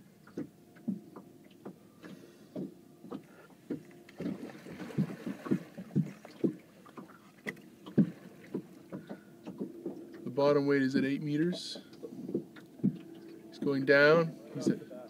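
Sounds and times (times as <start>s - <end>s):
faint steady hum: 0.0s - 15.0s
waves lapping against boat hull: 0.0s - 15.0s.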